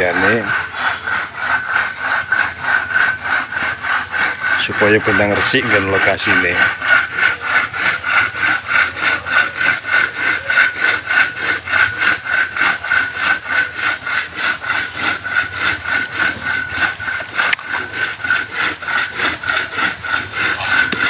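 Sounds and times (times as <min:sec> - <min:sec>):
crosscut saw cutting wood: 0:00.0 - 0:21.0.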